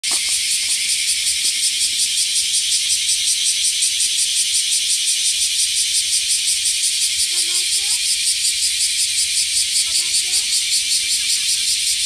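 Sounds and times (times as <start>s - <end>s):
cicada buzzing: 0.0s - 12.0s.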